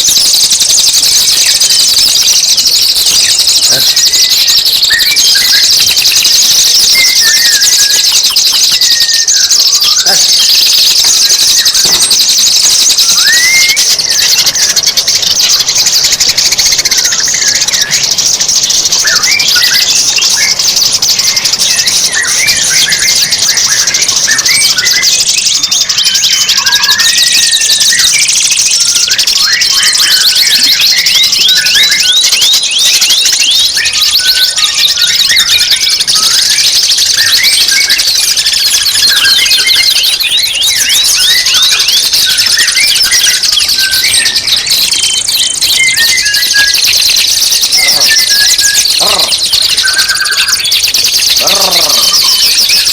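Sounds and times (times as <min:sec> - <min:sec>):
songbird trilling and chirping: 0:00.0 - 0:52.9.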